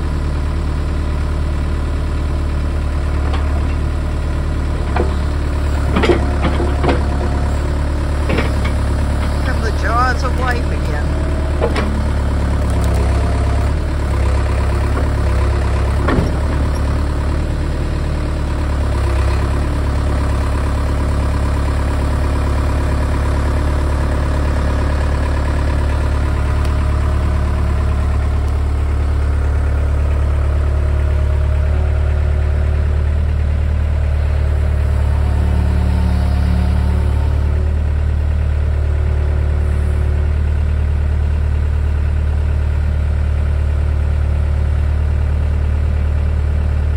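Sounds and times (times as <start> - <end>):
excavator diesel engine droning: 0.0 - 46.9.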